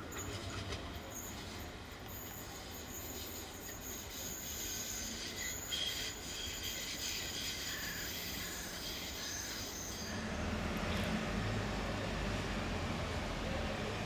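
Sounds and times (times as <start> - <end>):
tram wheels squealing on rails: 0.0 - 14.0.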